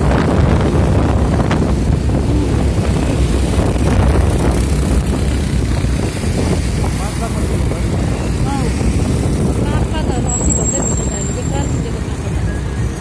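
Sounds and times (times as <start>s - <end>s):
vehicle engine and road rumble: 0.0s - 13.0s
wind buffeting microphone: 0.0s - 13.0s.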